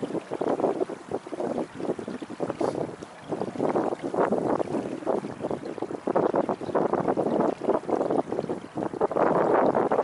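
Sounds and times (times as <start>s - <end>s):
water rushing along hull: 0.0s - 10.0s
wind buffeting microphone: 0.0s - 10.0s.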